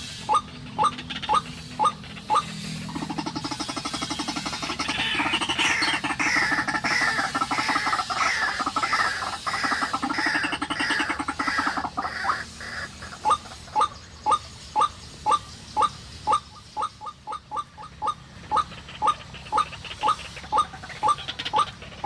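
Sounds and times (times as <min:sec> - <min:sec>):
bird pulsed falling calls: 0:00.0 - 0:22.0.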